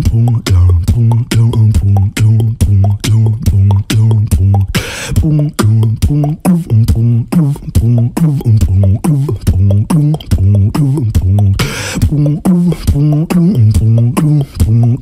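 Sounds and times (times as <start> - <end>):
beatboxed kick and snare clicks: 0.0 - 15.0
beatboxing bass line: 0.0 - 15.0.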